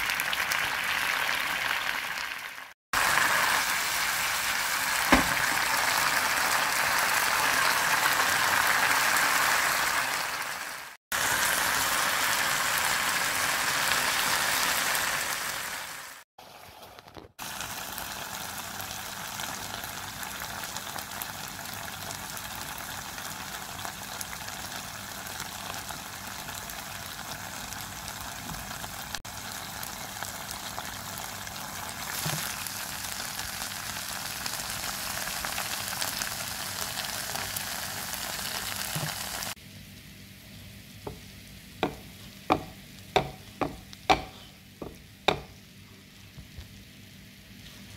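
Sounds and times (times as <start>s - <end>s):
rice simmering in a frying pan: 0.0s - 47.9s.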